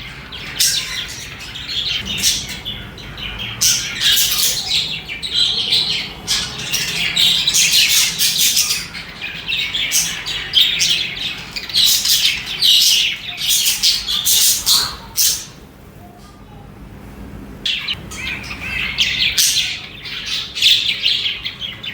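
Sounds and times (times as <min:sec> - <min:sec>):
budgerigars chirping and chattering: 0:00.0 - 0:15.8, 0:17.7 - 0:21.9.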